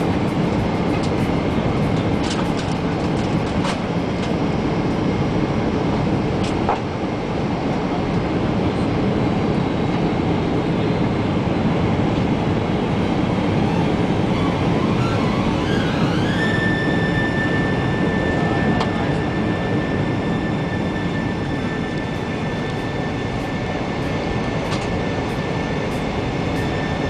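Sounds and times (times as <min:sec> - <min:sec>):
aircraft cabin rumble: 0:00.0 - 0:27.0.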